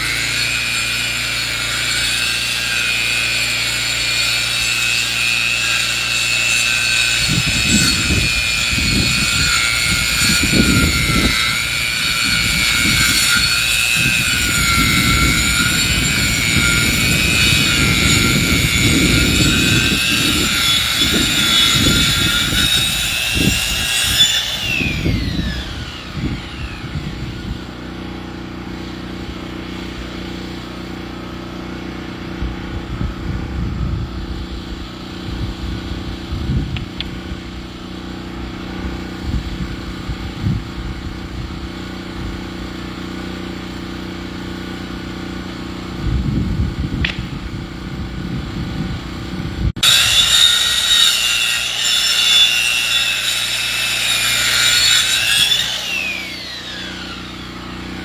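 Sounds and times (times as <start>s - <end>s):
sawmill engine humming: 0.0s - 58.0s.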